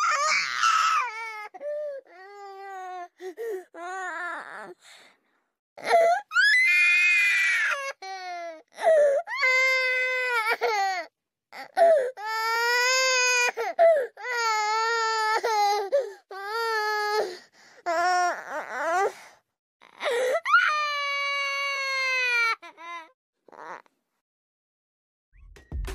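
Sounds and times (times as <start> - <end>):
baby crying: 0.0 - 4.8, 5.8 - 19.2, 19.8 - 23.9.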